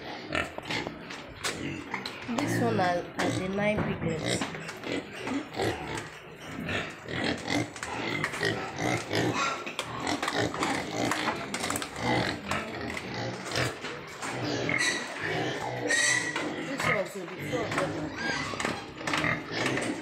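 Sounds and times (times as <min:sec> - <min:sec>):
piglets grunting: 0:00.0 - 0:20.0.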